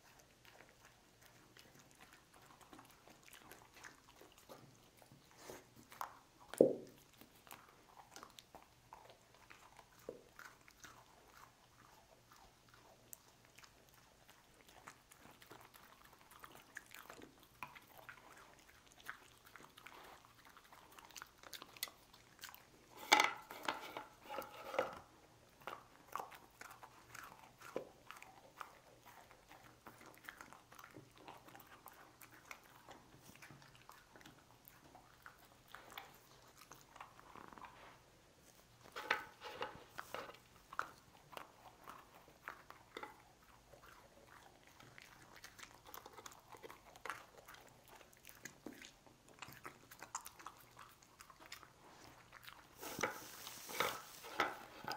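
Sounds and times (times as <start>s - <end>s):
dog crunching cookies: 0.0s - 54.9s.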